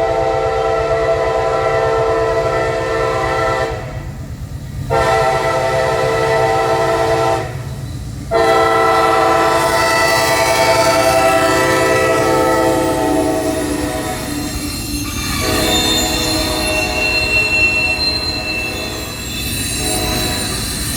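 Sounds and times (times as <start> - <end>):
locomotive air horn: 0.0 - 4.0, 4.9 - 7.7, 8.3 - 20.7
train rumbling: 0.0 - 20.9.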